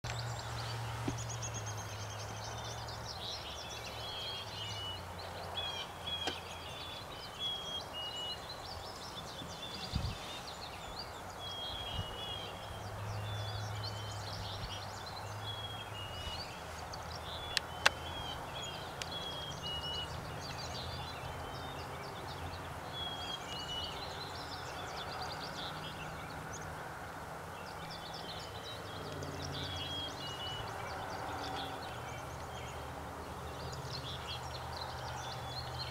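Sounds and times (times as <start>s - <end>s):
songbirds chirping: 0.0s - 35.9s.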